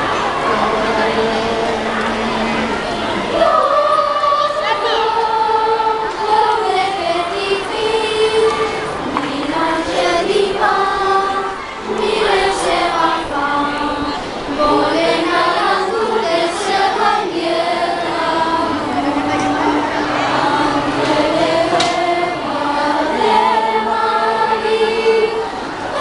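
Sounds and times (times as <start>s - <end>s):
youth choir singing: 0.0s - 26.0s.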